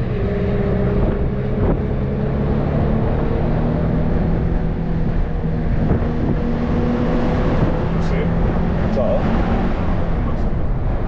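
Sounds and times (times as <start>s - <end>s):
car engine cruising: 0.0s - 11.0s
wind and road noise: 0.0s - 11.0s.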